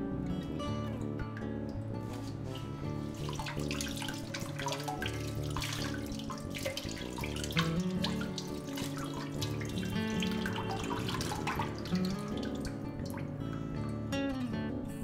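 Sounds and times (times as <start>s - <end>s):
soft background music: 0.0s - 15.0s
tap water splashing: 1.3s - 13.6s.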